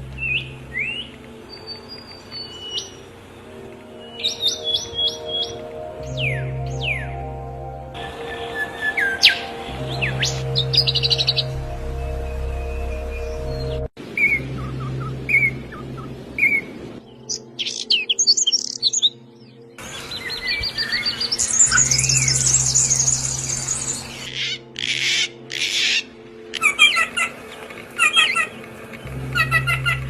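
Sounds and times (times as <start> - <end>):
low steady drone: 0.0 - 18.1, 19.1 - 30.0
songbirds chirping and trilling: 0.0 - 30.0.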